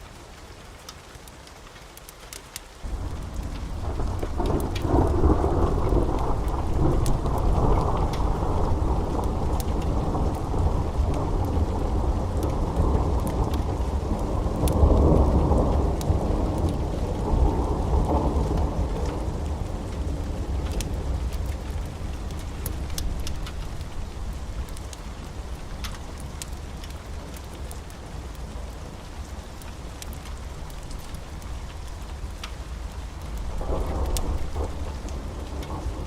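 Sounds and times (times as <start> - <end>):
steady rain: 0.0 - 36.0
sharp crackles: 0.8 - 36.0
rolling thunder: 2.9 - 28.9, 33.0 - 36.0.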